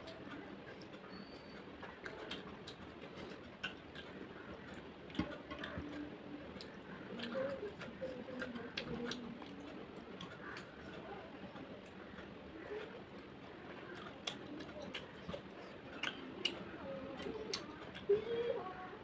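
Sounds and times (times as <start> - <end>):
person chewing with mouth clicks: 0.0 - 18.3.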